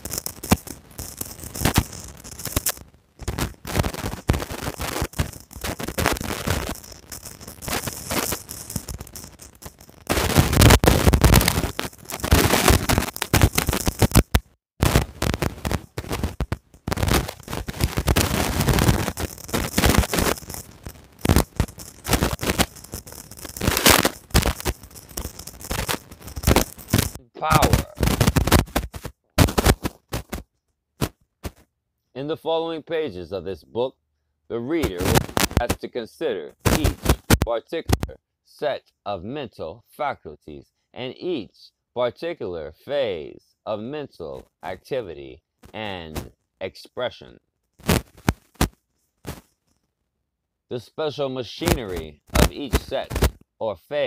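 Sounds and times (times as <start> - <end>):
static crackling and popping: 0.0 - 34.0, 34.6 - 54.0.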